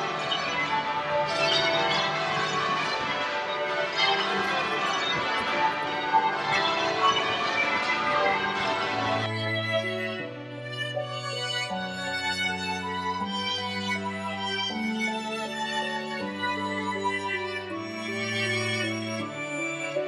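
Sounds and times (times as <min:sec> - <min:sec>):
church bells pealing: 0:00.0 - 0:20.0
music: 0:00.0 - 0:20.0.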